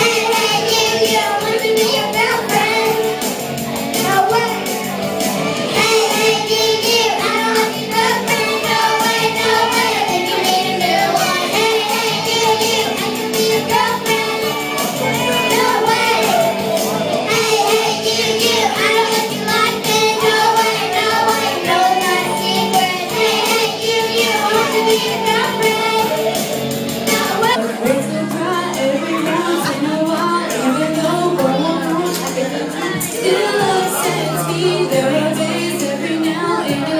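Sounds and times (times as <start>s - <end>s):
girls singing into microphones: 0.0s - 36.9s
karaoke backing track: 0.0s - 36.9s.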